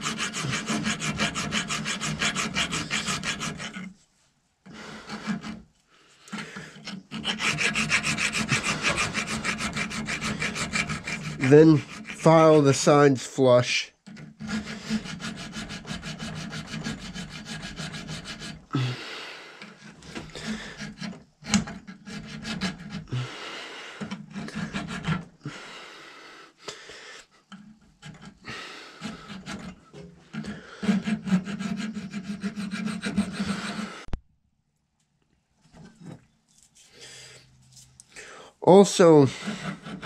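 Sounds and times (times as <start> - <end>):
hand file scraping metal: 0.0 - 4.0, 4.7 - 19.0, 19.6 - 25.6, 27.4 - 34.2, 39.0 - 40.0.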